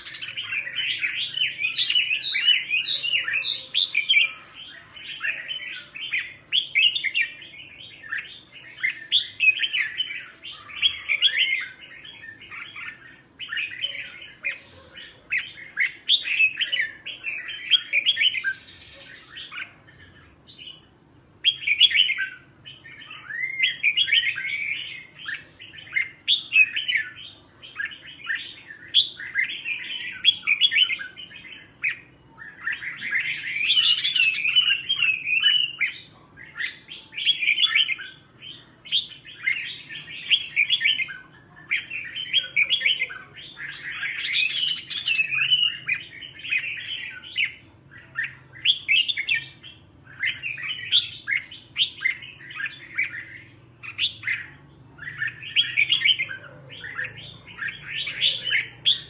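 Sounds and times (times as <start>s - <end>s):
bird singing chattering phrases: 0.0s - 59.0s.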